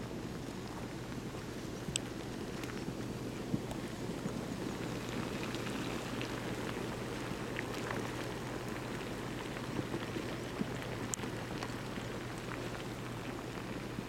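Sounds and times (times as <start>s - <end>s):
faint ticks: 0.4s - 14.0s.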